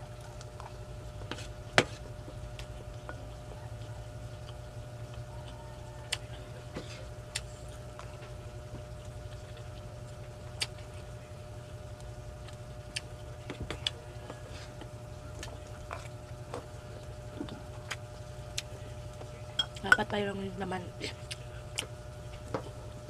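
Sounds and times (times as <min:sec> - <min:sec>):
chewing food: 0:00.0 - 0:20.1, 0:21.0 - 0:23.0
steady low hum: 0:00.0 - 0:23.0.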